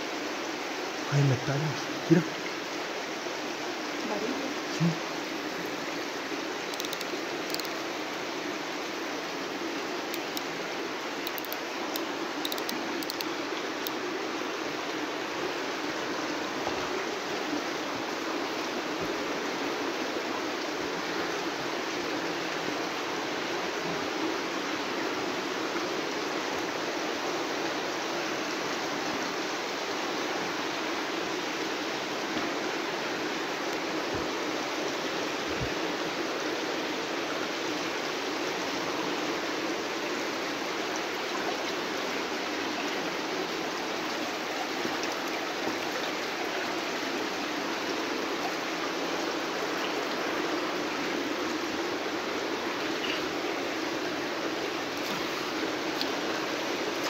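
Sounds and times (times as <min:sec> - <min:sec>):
water running in a cave: 0:00.0 - 0:57.0.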